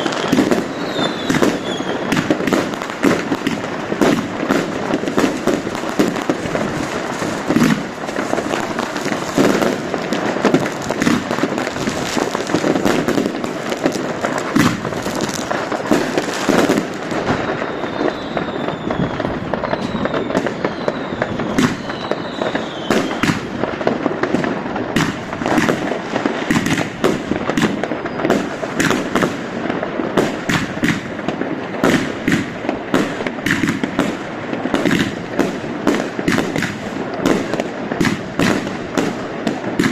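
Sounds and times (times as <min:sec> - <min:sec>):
fireworks bangs and crackling: 0:00.0 - 0:39.9
fireworks falling whistles: 0:00.0 - 0:39.9.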